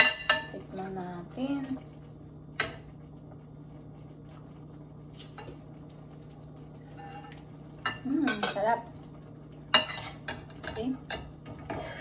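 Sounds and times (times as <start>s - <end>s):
broth simmering in a pot: 0.0s - 12.0s.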